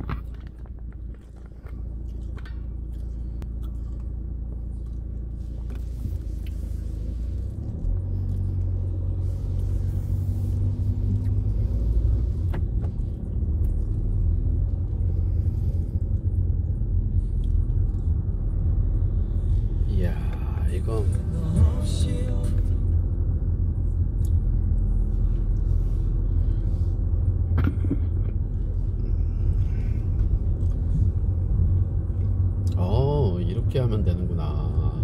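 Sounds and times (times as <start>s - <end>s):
road and engine rumble in car: 0.0s - 35.0s.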